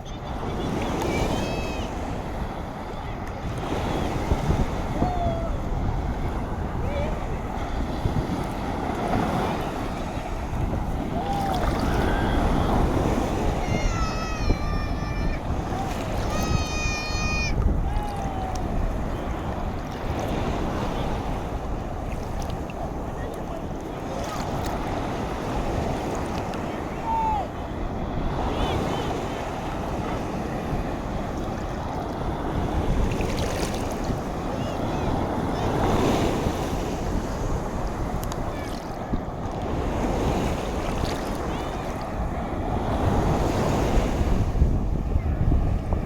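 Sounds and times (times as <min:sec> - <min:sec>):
sea surf: 0:00.0 - 0:46.0
wind buffeting microphone: 0:00.0 - 0:46.0.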